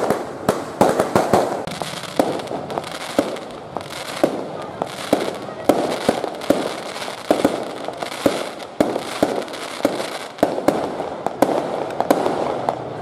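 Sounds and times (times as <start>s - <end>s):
continuous hiss: 0.0s - 13.0s
fireworks bangs: 0.0s - 13.0s.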